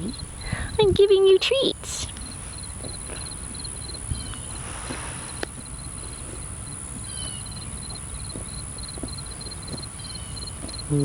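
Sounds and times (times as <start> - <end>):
cricket chirping: 0.0 - 11.0
bird chirp: 2.0 - 11.0.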